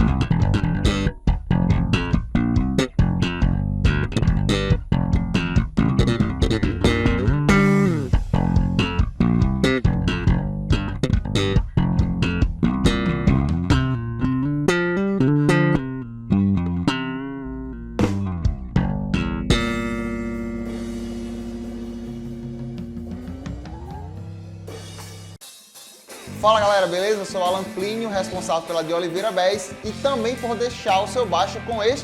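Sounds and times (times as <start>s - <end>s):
electric bass notes: 0.0s - 25.4s, 29.8s - 32.0s.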